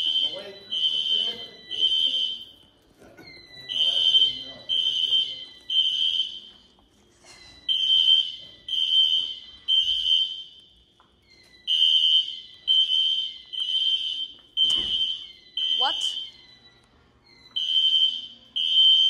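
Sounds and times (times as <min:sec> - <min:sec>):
fire alarm horns: 0:00.0 - 0:19.0.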